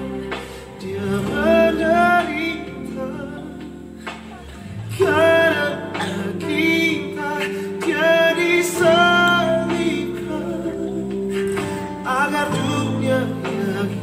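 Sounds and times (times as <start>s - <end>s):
instrumental accompaniment: 0.0s - 14.0s
voices singing held notes: 0.0s - 14.0s.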